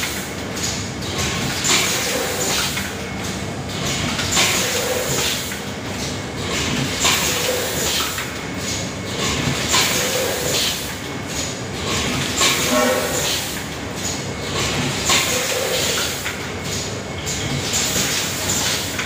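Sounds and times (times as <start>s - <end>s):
packing machine clatter: 0.0s - 19.0s.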